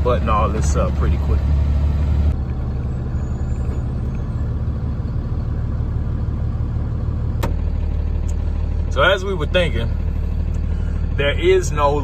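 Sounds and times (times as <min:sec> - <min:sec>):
road noise: 0:00.0 - 0:12.0
truck engine rumble: 0:00.0 - 0:12.0.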